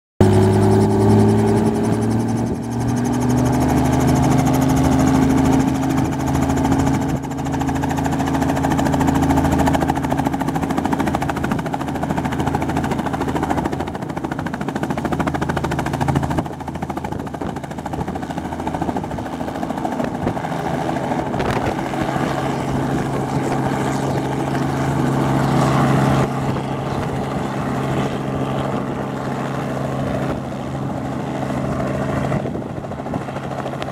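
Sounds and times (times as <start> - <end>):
helicopter engine and rotor: 0.2 - 33.9.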